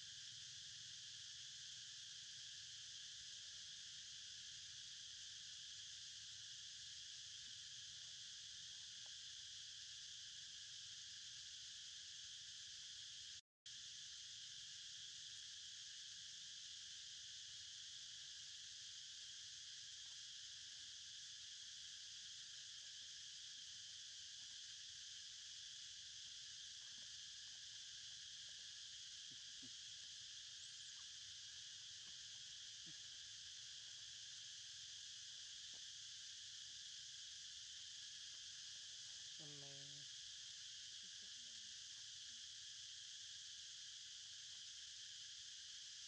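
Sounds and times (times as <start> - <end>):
insect buzzing drone: 0.0 - 46.0.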